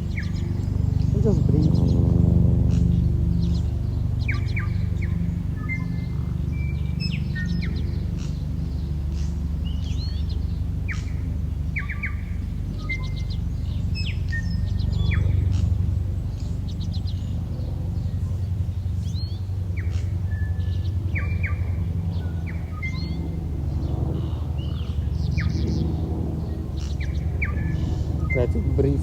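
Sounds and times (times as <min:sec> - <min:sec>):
steady low rumble: 0:00.0 - 0:29.0
wild birds chirping and calling: 0:00.0 - 0:29.0.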